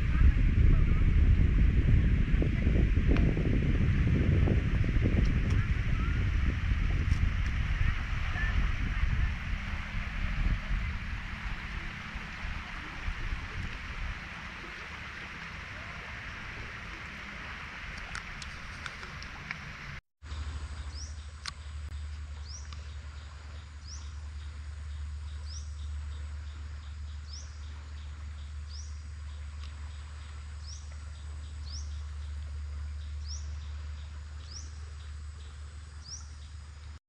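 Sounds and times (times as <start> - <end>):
rain hissing: 0.0 - 37.0
steady low rumble: 0.0 - 37.0.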